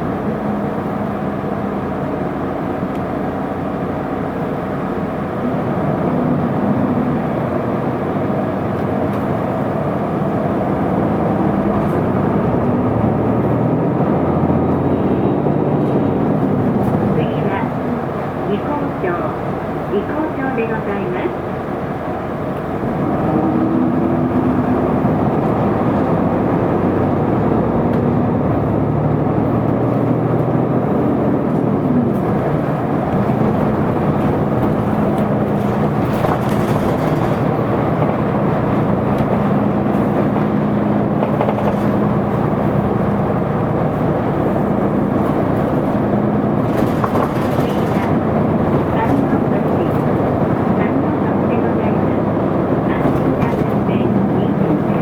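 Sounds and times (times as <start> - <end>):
bus diesel engine: 0.0 - 55.0
road and cabin noise: 0.0 - 55.0.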